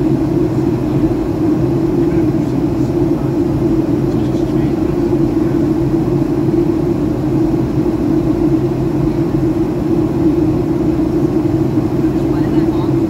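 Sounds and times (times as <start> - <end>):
airliner cabin engine drone: 0.0 - 13.0
low hum: 0.0 - 13.0.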